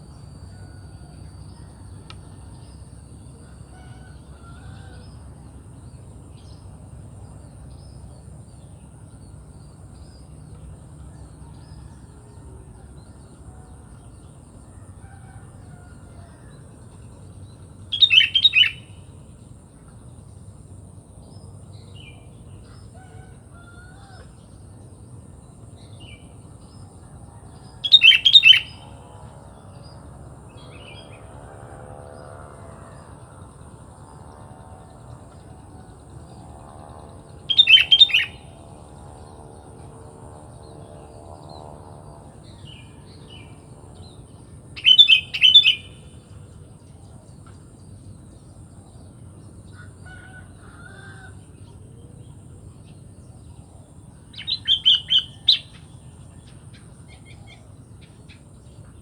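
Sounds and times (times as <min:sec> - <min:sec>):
faint distant bird calls: 0:00.0 - 0:59.0.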